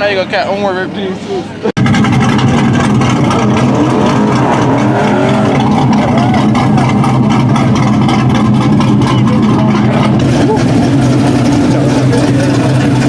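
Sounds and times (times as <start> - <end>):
faint voices chattering: 0.0 - 13.0
car engine running: 1.7 - 13.0.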